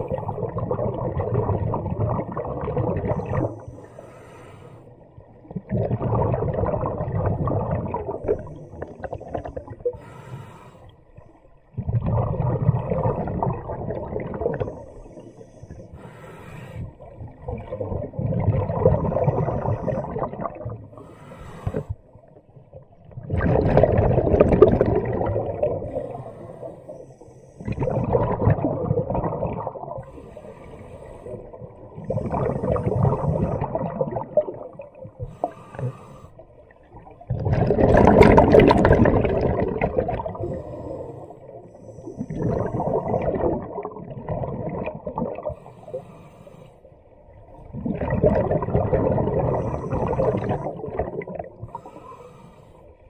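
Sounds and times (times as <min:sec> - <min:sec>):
exhaled bubbles underwater: 0:00.0 - 0:53.0.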